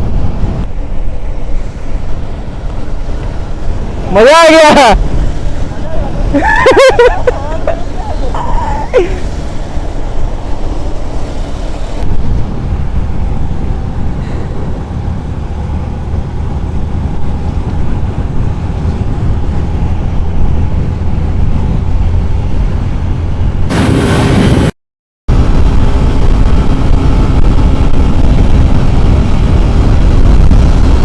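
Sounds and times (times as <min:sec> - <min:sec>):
faint motorcycle engine drone: 0:00.0 - 0:24.0, 0:25.3 - 0:31.0
wind buffeting microphone: 0:00.0 - 0:24.7, 0:25.3 - 0:31.0.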